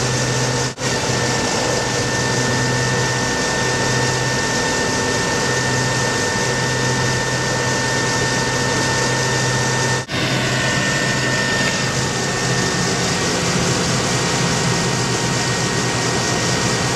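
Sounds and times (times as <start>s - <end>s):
truck engine humming: 0.0s - 16.9s.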